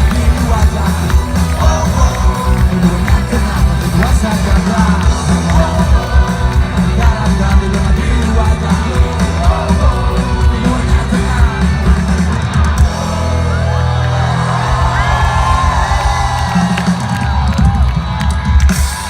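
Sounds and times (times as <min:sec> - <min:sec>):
drums: 0:00.0 - 0:19.0
rock band playing live: 0:00.0 - 0:19.0.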